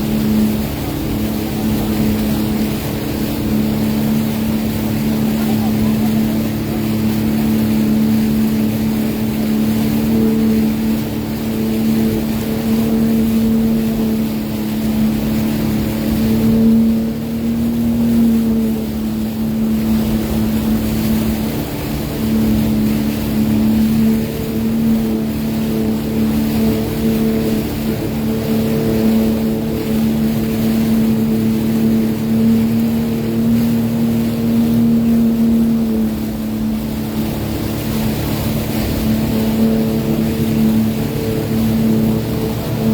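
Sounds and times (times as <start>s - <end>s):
personal watercraft engine running: 0.0s - 42.9s
wind and water rushing: 0.0s - 42.9s.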